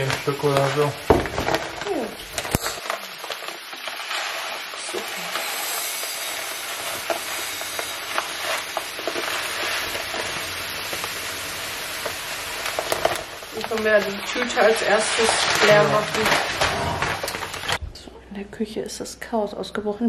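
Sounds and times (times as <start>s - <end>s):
rice pouring into glass jar: 0.0s - 17.8s.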